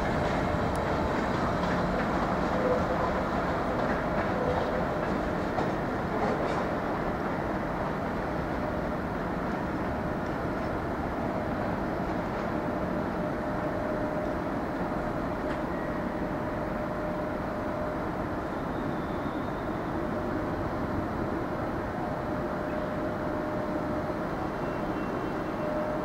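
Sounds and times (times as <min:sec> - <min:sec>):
train running: 0:00.0 - 0:26.0.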